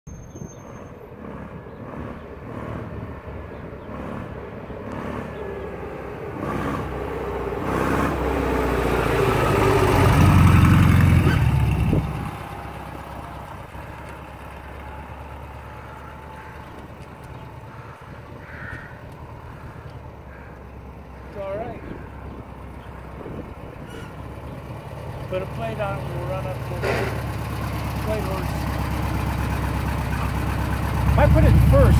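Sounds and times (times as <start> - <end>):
trike engine passing by: 0.1 - 31.9.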